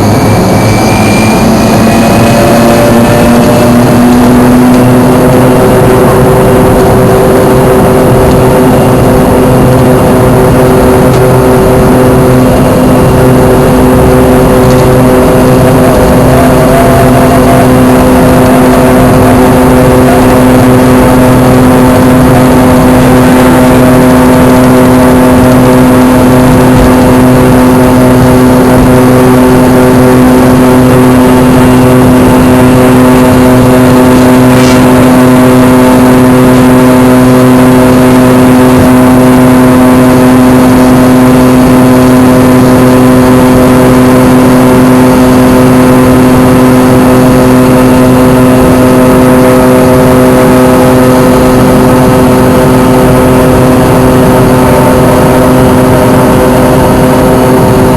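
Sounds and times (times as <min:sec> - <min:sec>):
jet engine drone in cabin: 0:00.0 - 0:57.9.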